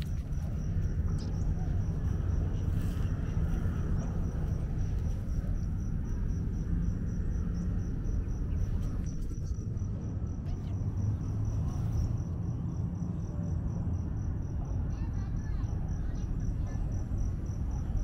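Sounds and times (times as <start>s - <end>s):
insect chirping: 0.0s - 18.0s
steady low rumble: 0.0s - 18.0s.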